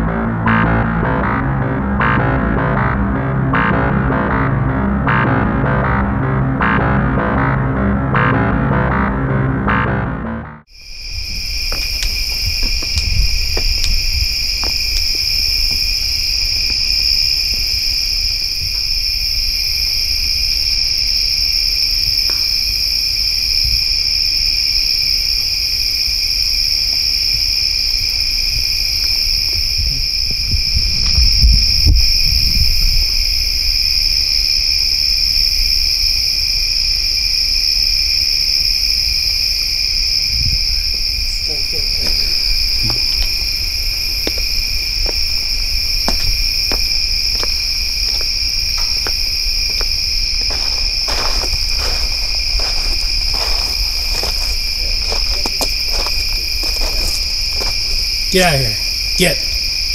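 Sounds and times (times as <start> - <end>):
night insects trilling: 10.7 - 59.9.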